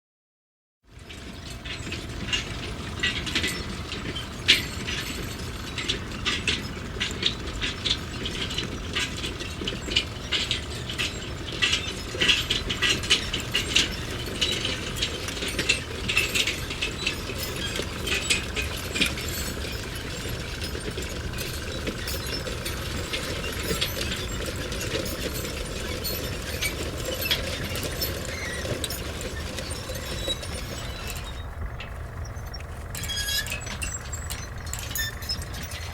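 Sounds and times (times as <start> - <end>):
mechanical rumble: 1.0 - 35.9.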